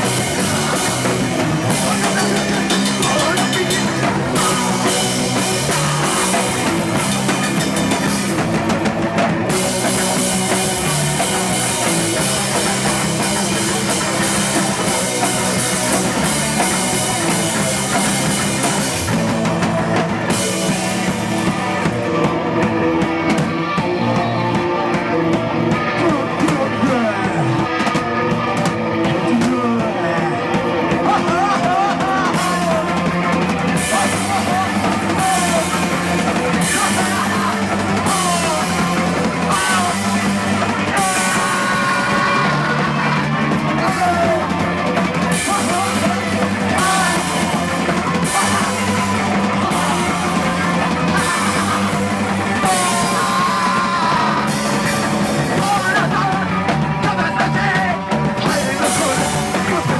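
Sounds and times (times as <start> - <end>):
drum kit: 0.0 - 59.9
electric guitar: 0.0 - 59.9
rock band playing live: 0.0 - 59.9.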